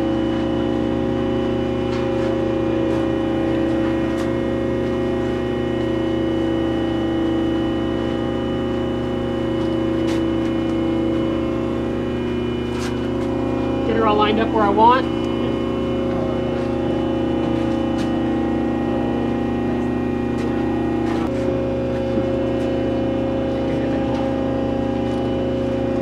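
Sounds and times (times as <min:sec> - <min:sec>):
shop machinery humming: 0:00.0 - 0:26.0.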